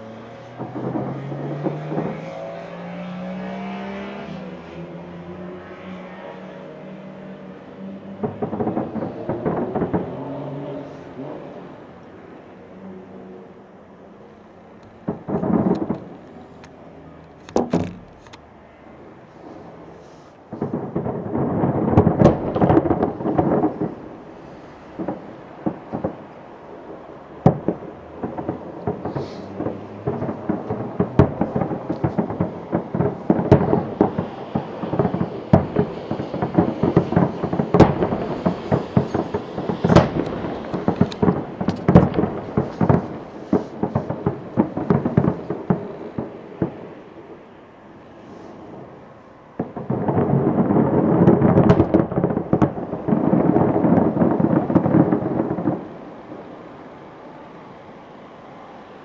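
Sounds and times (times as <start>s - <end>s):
fireworks booms and crackles: 0.0s - 5.9s, 6.7s - 13.0s, 14.6s - 57.1s.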